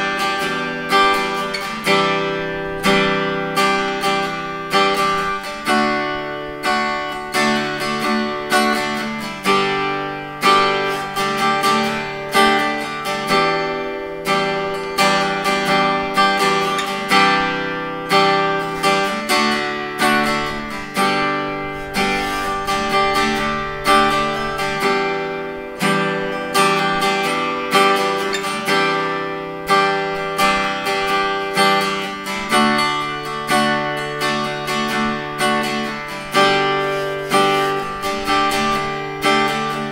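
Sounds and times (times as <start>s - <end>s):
acoustic guitar chords: 0.0s - 39.9s.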